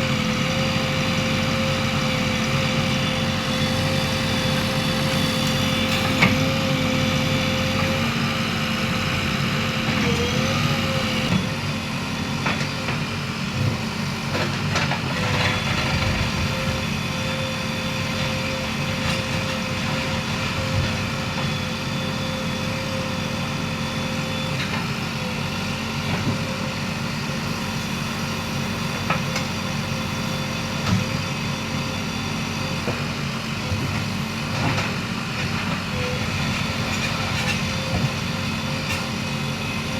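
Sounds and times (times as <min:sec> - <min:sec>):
diesel engine running: 0:00.0 - 0:39.9
engine whine: 0:00.0 - 0:39.9.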